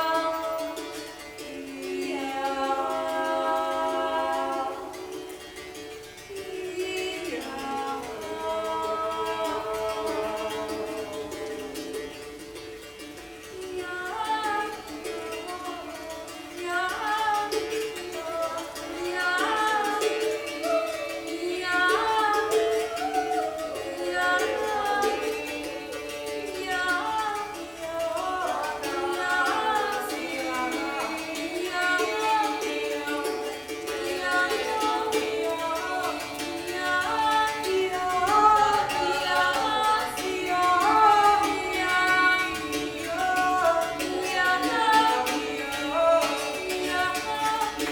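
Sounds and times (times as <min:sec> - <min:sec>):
plucked string instrument: 0:00.0 - 0:47.9
voices singing: 0:00.0 - 0:47.9.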